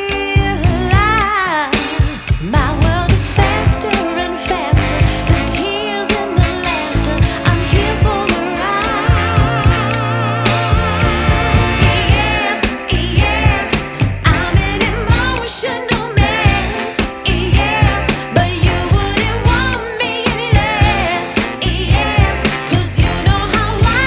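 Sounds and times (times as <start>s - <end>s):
song with wavering sung melody: 3.3s - 24.0s.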